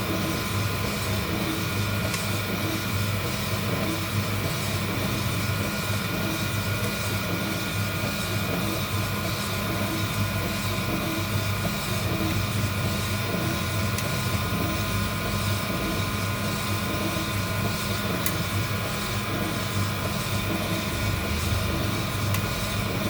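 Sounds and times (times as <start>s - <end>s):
heat gun fan whining: 0.0s - 23.0s.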